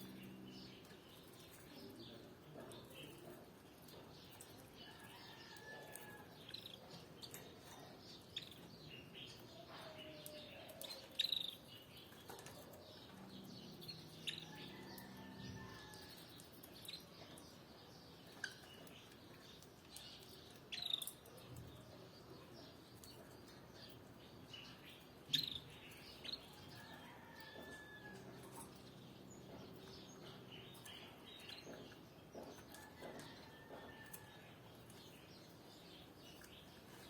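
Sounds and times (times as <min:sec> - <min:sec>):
canaries chirping: 0:00.0 - 0:37.0.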